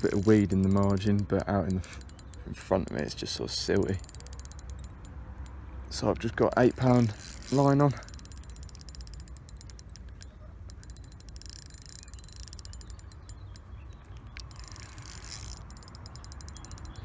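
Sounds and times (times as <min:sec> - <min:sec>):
fishing reel drag clicking: 0:00.0 - 0:17.0.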